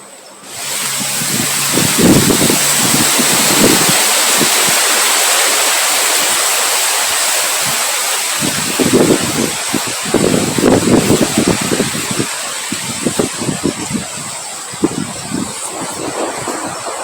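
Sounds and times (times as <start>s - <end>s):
heavy rain hissing: 0.0s - 17.0s
wind buffeting microphone: 0.4s - 17.0s.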